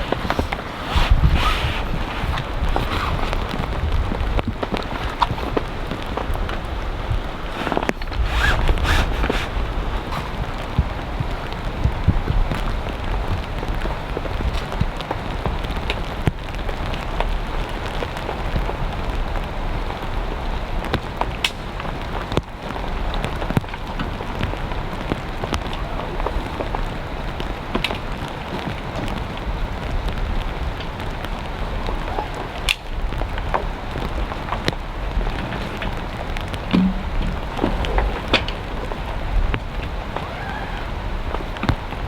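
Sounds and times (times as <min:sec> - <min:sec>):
heavy rain downpour: 0:00.0 - 0:42.0
raindrops striking close by: 0:00.0 - 0:42.0.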